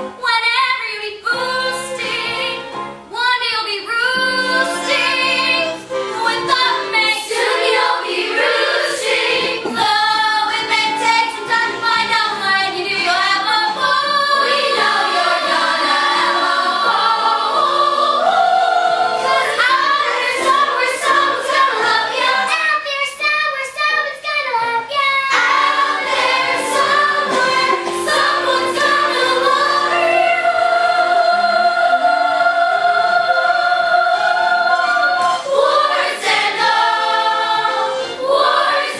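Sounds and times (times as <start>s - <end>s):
backing music: 0.0s - 38.9s
group singing: 4.0s - 22.6s, 25.3s - 38.9s.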